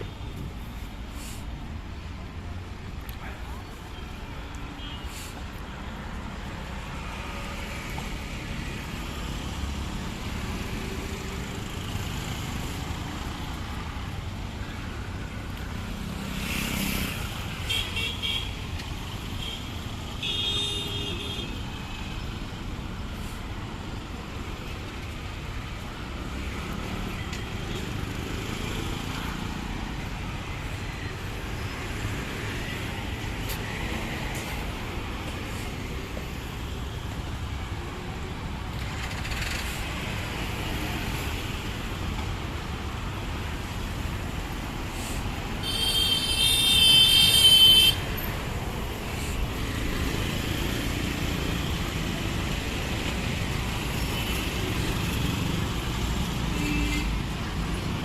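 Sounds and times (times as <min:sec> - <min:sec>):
city road traffic: 0:00.0 - 0:58.0.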